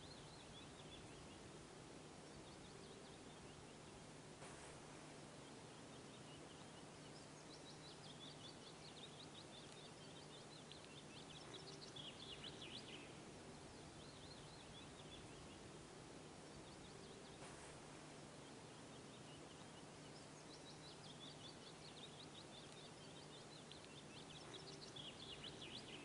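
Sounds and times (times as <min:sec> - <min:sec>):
small songbird singing: 0:00.0 - 0:26.0
steady background hiss: 0:00.0 - 0:26.0.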